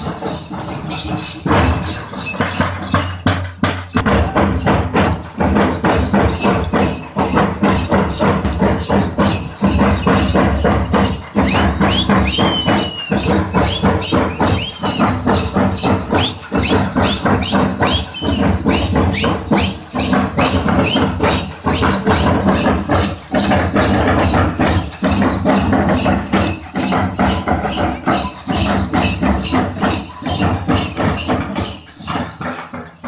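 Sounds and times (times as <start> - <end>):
bright jingling: 0.0 - 33.0
fast drumming: 0.0 - 33.0.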